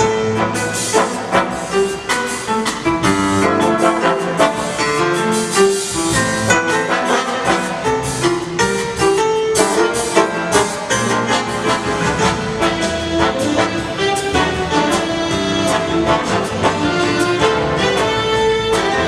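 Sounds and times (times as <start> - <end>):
brass and saxophone: 0.0 - 19.0
piano: 0.0 - 19.0.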